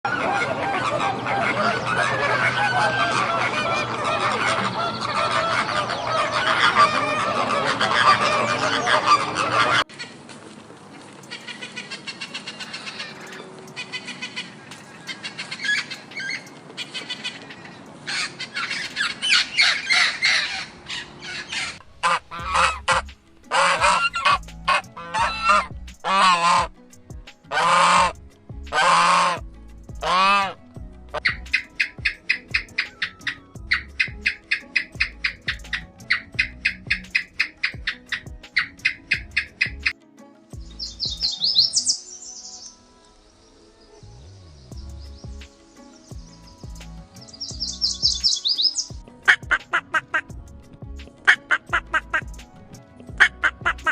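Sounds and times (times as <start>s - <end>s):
bird calls: 0.1s - 10.3s, 10.9s - 26.7s, 30.0s - 40.0s, 40.6s - 50.3s.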